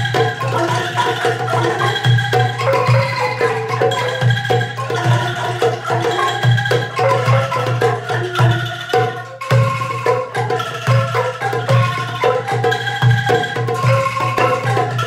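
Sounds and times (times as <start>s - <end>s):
angklung ensemble melody: 0.0s - 15.0s.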